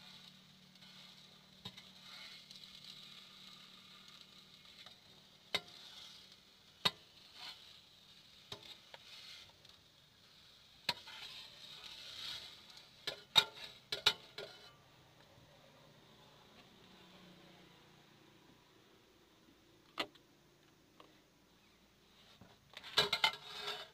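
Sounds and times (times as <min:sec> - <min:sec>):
faint sizzling oil: 0:00.0 - 0:19.7, 0:21.6 - 0:23.9.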